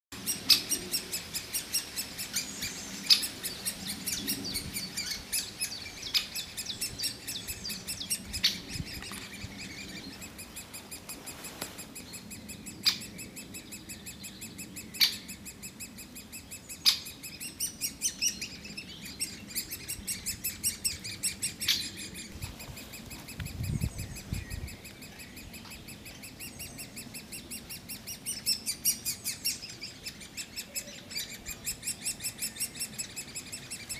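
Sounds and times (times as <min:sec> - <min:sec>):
nestlings chirping: 0:00.2 - 0:33.9.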